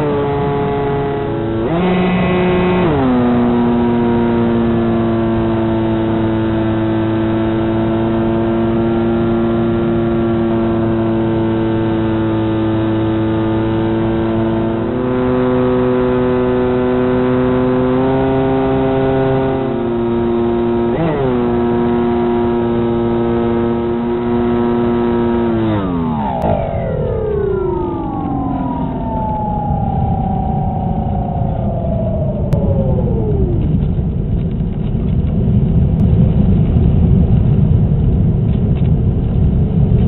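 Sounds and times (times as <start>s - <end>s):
electric motor and propeller whine: 0.0s - 35.2s.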